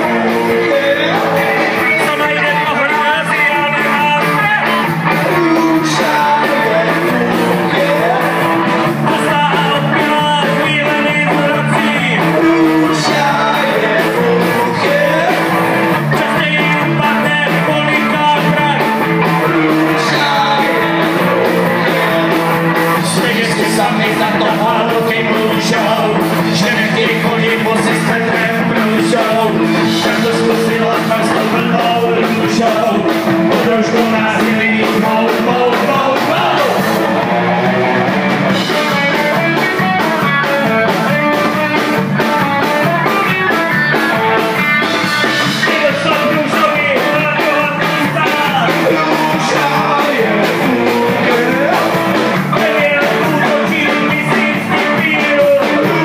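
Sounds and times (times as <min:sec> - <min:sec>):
men singing into microphones: 0:00.0 - 0:38.7, 0:44.7 - 0:56.0
drum kit with cymbals: 0:00.0 - 0:56.0
electric guitars: 0:00.0 - 0:56.0.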